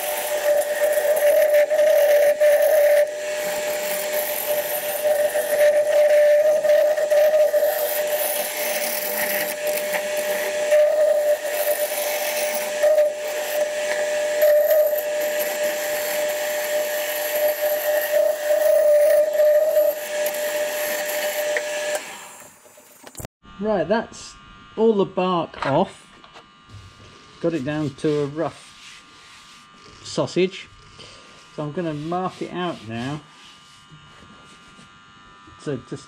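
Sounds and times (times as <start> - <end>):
turning tool scraping wood: 0.0 - 23.3, 25.6 - 35.8
lathe whine: 0.0 - 23.6, 25.6 - 36.0.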